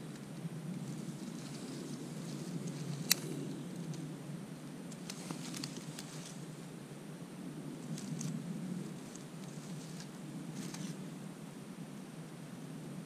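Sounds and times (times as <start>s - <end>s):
low outdoor rushing noise: 0.0s - 13.0s.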